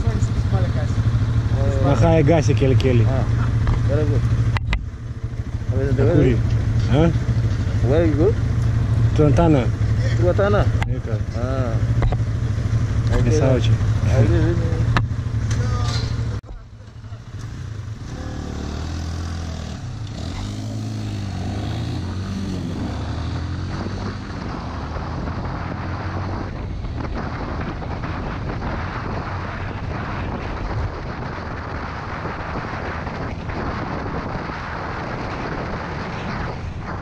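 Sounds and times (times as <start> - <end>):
motorcycle engine accelerating: 0.0 - 37.0
wind and road noise: 0.0 - 37.0.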